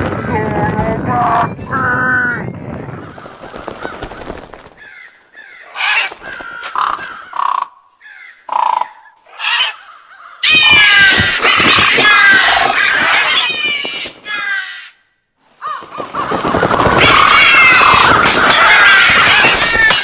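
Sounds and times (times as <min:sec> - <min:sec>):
flock of birds calling: 0:02.7 - 0:20.0
birds cawing: 0:02.8 - 0:20.0.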